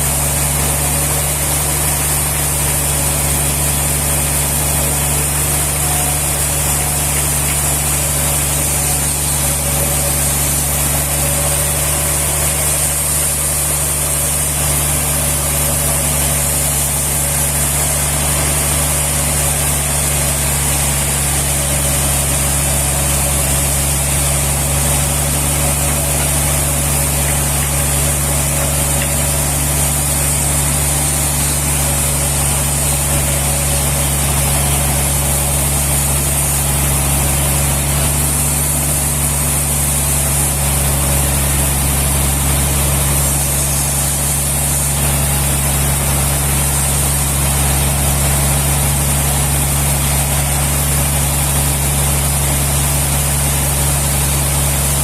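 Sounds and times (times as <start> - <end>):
engine running with low hum: 0.0 - 55.0.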